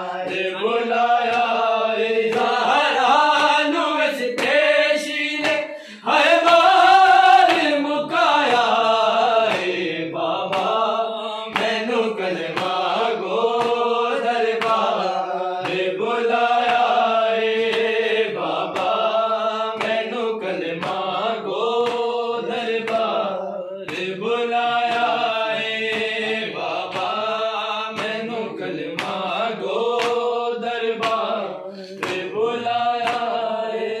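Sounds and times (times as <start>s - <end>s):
sharp percussive beats: 0.0s - 3.8s, 6.5s - 34.0s
men singing together: 0.0s - 34.0s.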